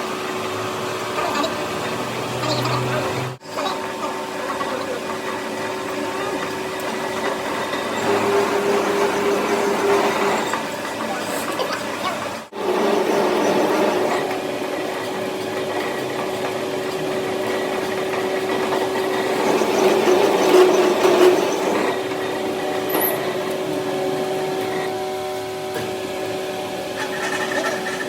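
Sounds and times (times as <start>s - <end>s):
workshop machine humming: 0.0s - 28.0s
machine scraping: 1.2s - 28.0s.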